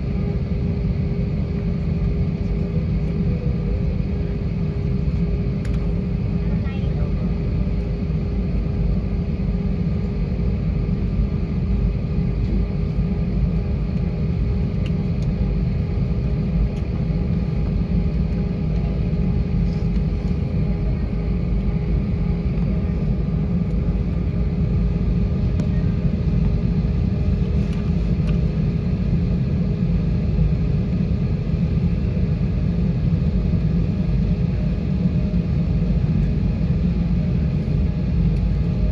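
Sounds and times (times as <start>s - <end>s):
aircraft engine rumble: 0.0s - 38.9s.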